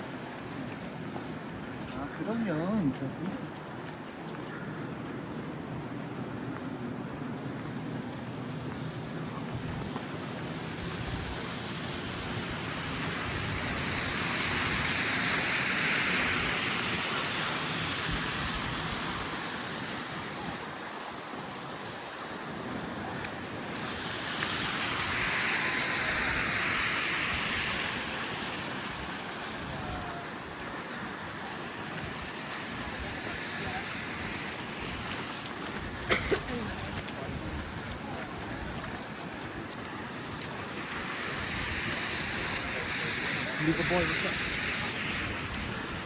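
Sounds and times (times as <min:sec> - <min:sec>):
tyres hissing through slush: 0:00.0 - 0:03.6, 0:09.2 - 0:46.0
low city rumble: 0:00.0 - 0:46.0.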